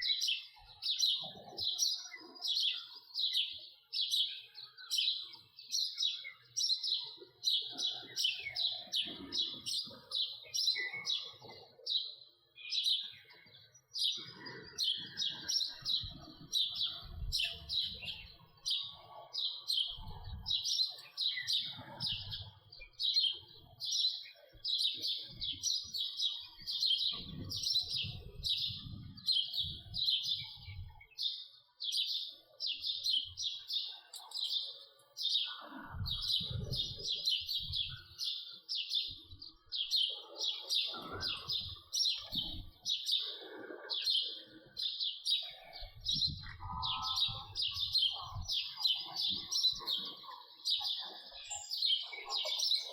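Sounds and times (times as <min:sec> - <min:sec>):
sparrow chirping: 0:00.0 - 0:52.9.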